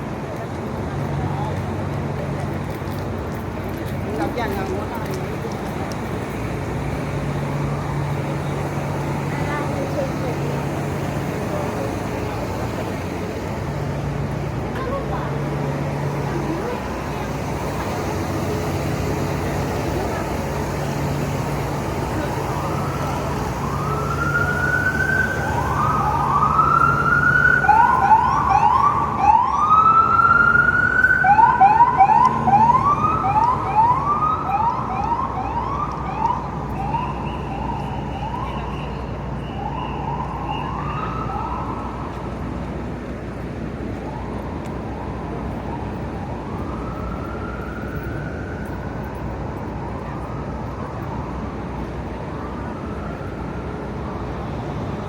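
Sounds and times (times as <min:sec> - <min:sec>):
emergency vehicle siren: 0:00.0 - 0:55.0
traffic rumble: 0:00.0 - 0:55.0.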